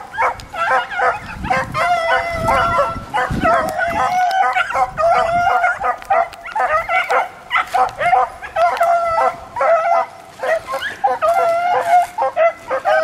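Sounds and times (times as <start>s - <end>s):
dogs baying and barking: 0.0s - 13.0s.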